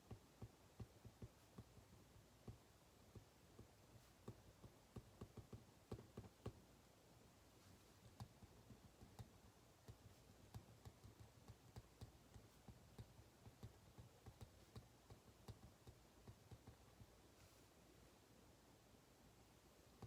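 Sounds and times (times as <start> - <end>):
faint clicks and taps at desk: 0.0 - 6.7, 7.6 - 17.7.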